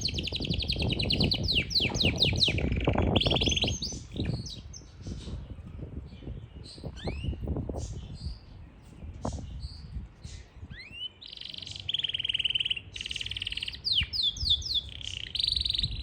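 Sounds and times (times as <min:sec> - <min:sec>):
canary singing and trilling: 0:00.0 - 0:16.0.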